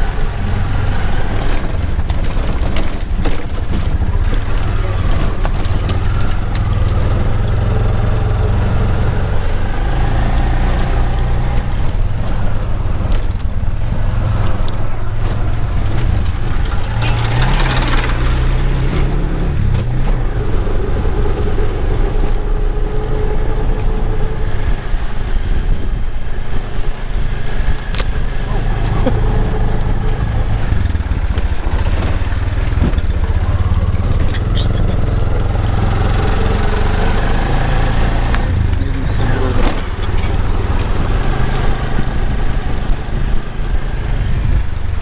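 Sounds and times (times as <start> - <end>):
auto-rickshaw engine running: 0.0 - 45.0
road noise: 0.0 - 45.0.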